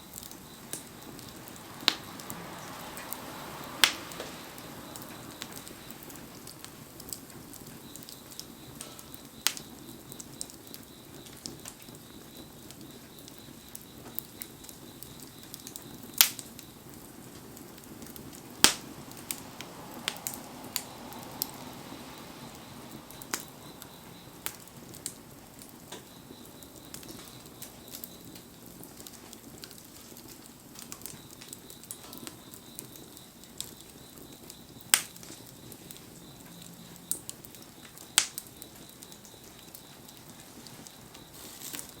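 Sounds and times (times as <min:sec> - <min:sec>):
bonfire crackling and popping: 0:00.0 - 0:42.0
loud snaps of fire: 0:00.0 - 0:42.0
steady fire hiss: 0:00.0 - 0:42.0.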